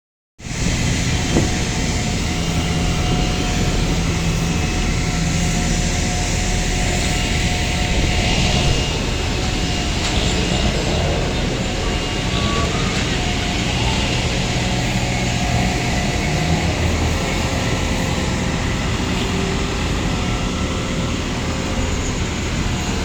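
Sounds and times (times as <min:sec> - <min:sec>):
airliner rumble and hum: 0:00.4 - 0:23.0.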